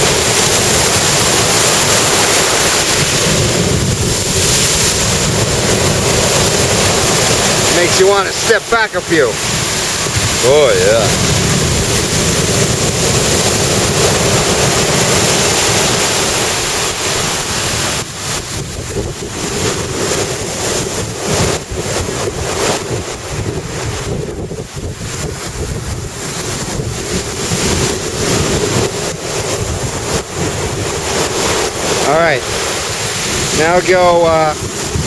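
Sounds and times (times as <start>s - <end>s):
surf breaking on beach: 0.0s - 35.0s
wind buffeting microphone: 0.0s - 35.0s.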